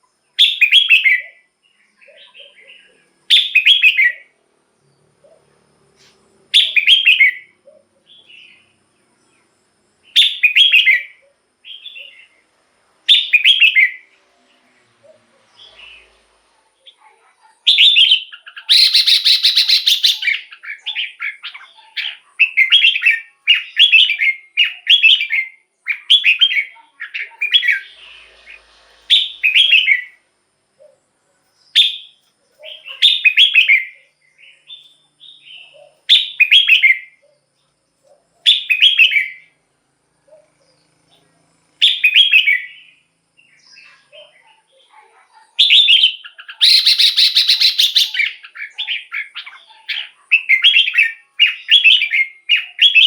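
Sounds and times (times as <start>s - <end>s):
bird singing warbled phrases: 0.0s - 5.6s, 6.5s - 12.5s, 13.1s - 39.6s, 40.3s - 53.0s.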